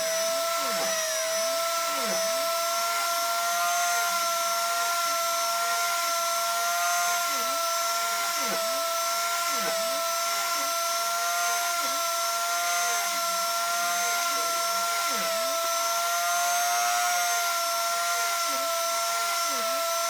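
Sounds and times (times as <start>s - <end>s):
power tool motor whining: 0.0s - 20.0s.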